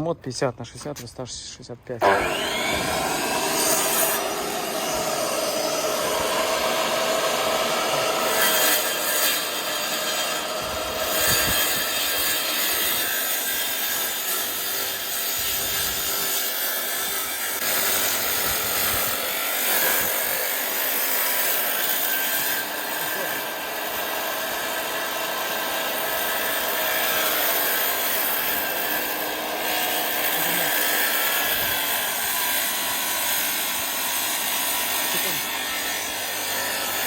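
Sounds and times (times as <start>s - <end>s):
power saw cutting: 2.0s - 37.0s.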